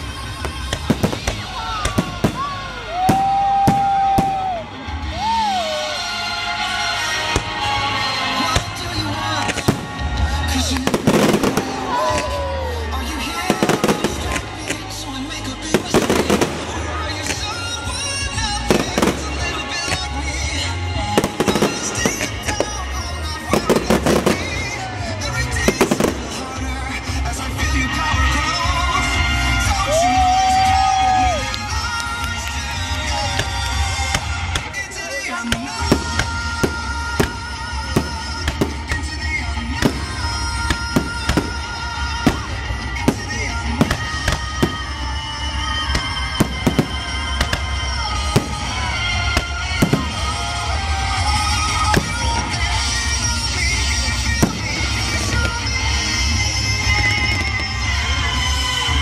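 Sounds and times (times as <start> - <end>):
fireworks bangs and crackles: 0.0 - 59.0
music playing: 0.0 - 59.0.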